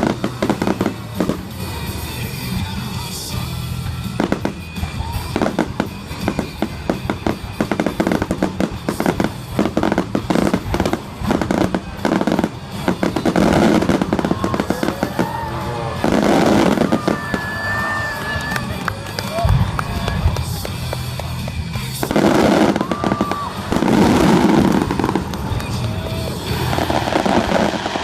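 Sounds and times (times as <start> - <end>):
firework shell bursts and crackle: 0.0 - 28.0.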